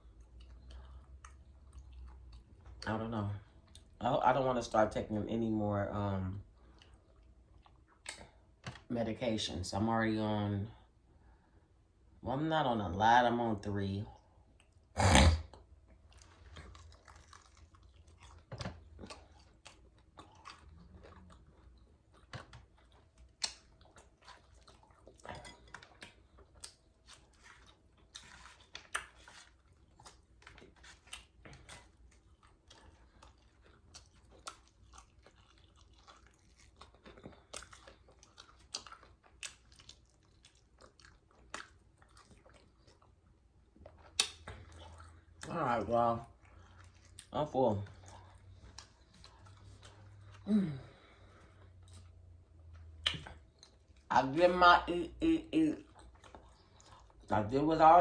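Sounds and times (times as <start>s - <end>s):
chewing fried chicken: 0.0s - 4.0s, 4.6s - 8.9s, 13.6s - 58.0s.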